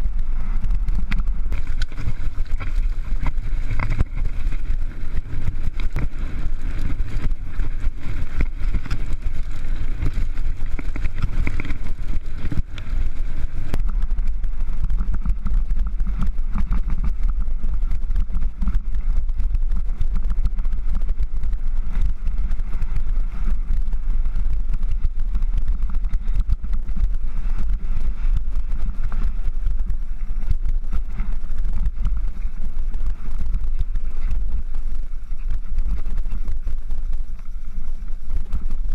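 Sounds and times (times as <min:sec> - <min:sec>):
bike rattling over gravel: 0:00.0 - 0:38.9
wind rumble on microphone: 0:00.0 - 0:38.9.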